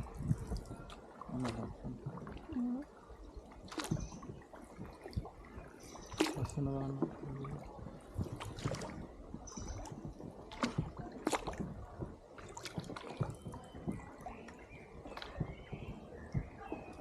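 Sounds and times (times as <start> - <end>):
oars splashing in water: 0.0 - 17.0
water gurgling and dripping: 0.0 - 17.0.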